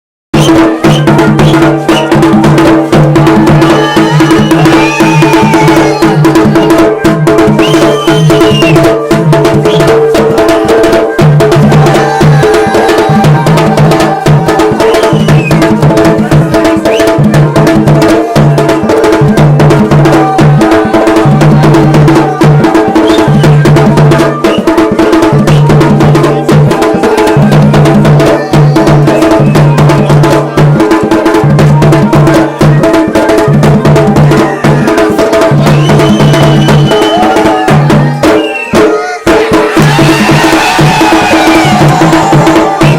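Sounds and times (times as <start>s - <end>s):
drums playing dense rhythm: 0.3s - 42.9s.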